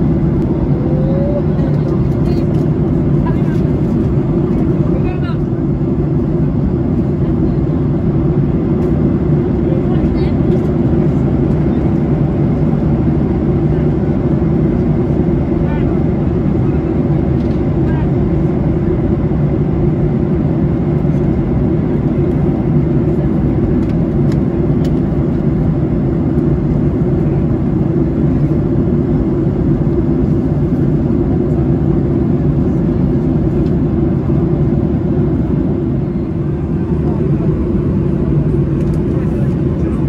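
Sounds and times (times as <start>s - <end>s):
airliner cabin noise: 0.0s - 40.0s.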